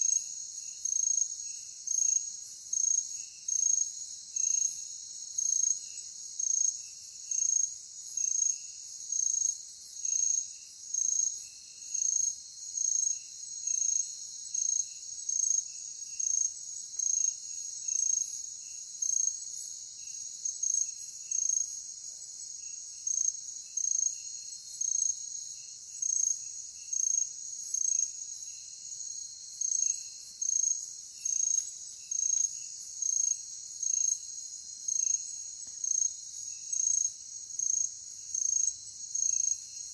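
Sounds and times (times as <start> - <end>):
loud sharp insect chirp: 0.0 - 39.9.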